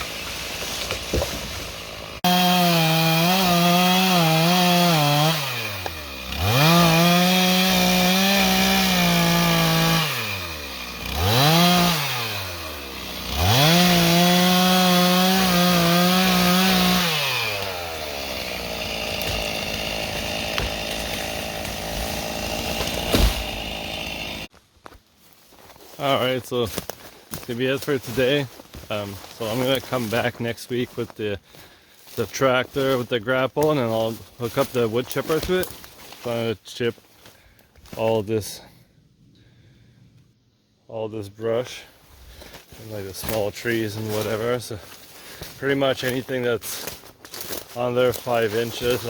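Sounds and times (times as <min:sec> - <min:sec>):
chainsaw revving and idling: 0:00.0 - 0:24.5, 0:26.7 - 0:37.3, 0:41.7 - 0:49.0.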